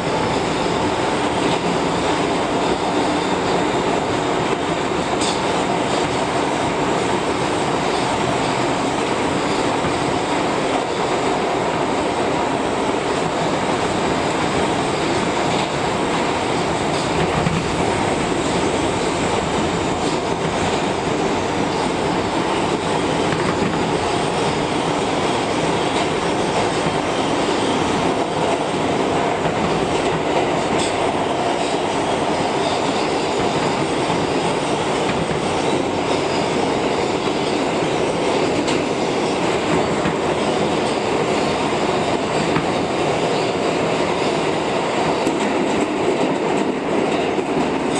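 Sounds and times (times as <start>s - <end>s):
subway train wheels rumbling: 0.0s - 47.9s.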